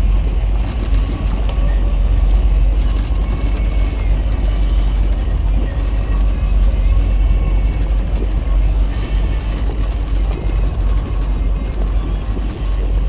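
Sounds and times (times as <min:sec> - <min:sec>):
boat motor rumbling: 0:00.0 - 0:13.0.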